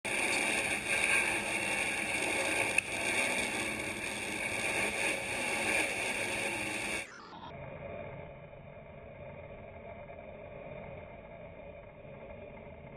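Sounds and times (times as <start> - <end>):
airboat engine and propeller: 0.0 - 12.9.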